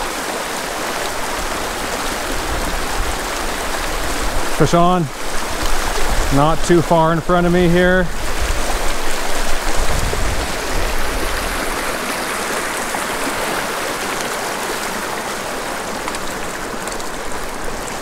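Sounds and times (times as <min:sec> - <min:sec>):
creek water rushing over rocks: 0:00.0 - 0:18.0.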